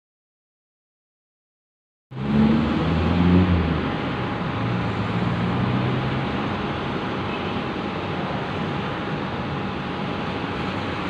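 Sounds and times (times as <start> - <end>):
cars driving past: 2.1 - 11.0
road noise: 2.1 - 11.0
vehicle engine hum: 2.1 - 11.0.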